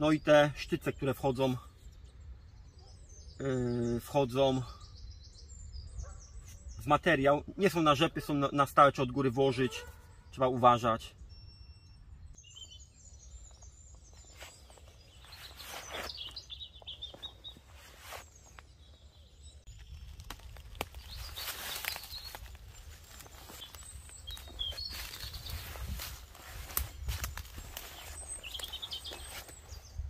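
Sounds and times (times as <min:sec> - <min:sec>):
bird chirps: 0:00.0 - 0:30.0.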